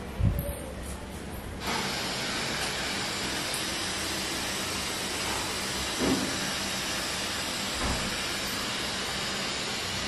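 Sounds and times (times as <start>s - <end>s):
gas burner hissing: 1.5s - 10.0s.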